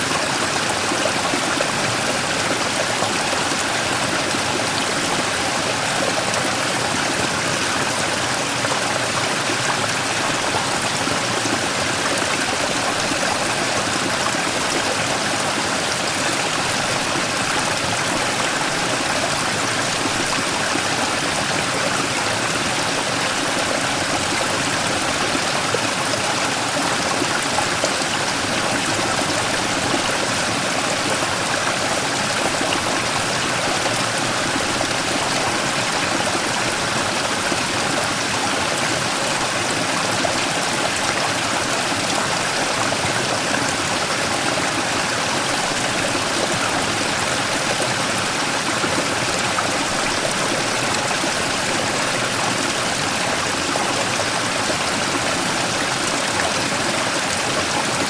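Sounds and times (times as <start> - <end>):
stream rushing over rock: 0.0 - 58.0.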